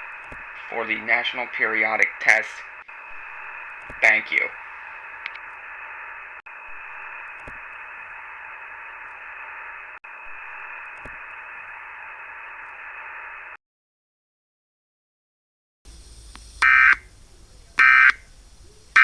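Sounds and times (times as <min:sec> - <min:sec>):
radio static hiss: 0:00.0 - 0:13.6, 0:15.9 - 0:19.0.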